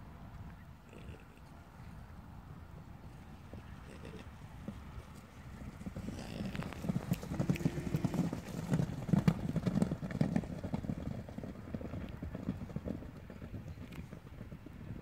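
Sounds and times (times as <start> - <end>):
horse hoofbeats galloping on grass: 2.7 - 15.0.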